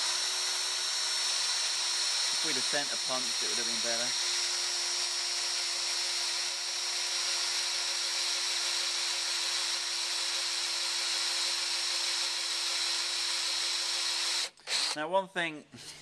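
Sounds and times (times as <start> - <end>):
power drill cutting steel: 0.0 - 15.0.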